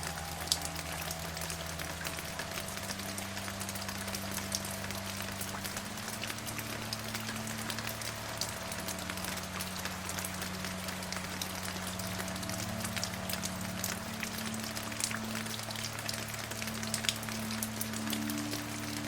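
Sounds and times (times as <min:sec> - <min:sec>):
rain drops ticking: 0:00.0 - 0:19.0.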